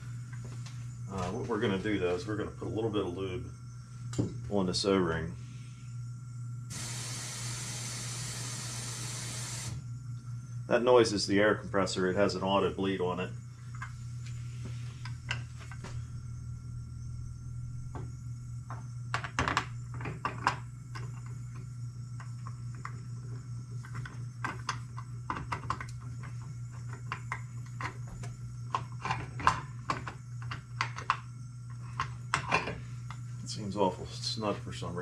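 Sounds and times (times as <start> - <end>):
air compressor humming: 0.0 - 35.0.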